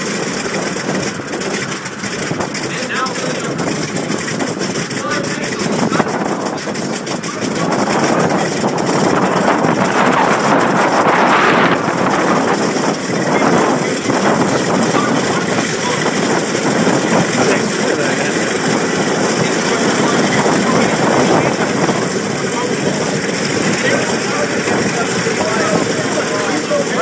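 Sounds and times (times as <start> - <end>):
radial aircraft engine rumbling: 0.0 - 27.0.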